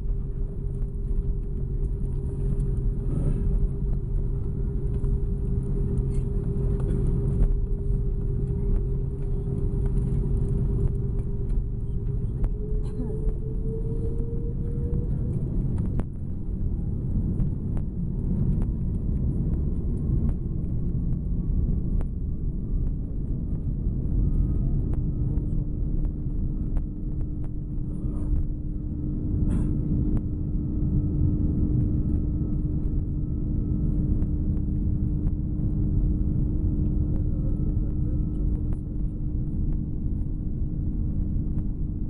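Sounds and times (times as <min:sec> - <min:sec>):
jet engines rumbling: 0:00.0 - 0:42.0
rising whine: 0:00.0 - 0:42.0.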